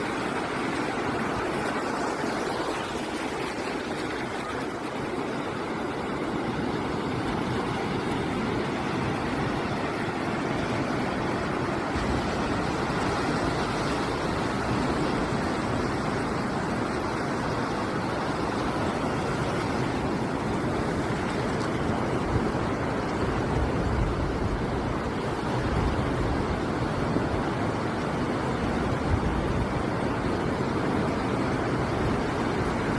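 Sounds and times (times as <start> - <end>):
sea waves breaking: 0.0 - 32.9.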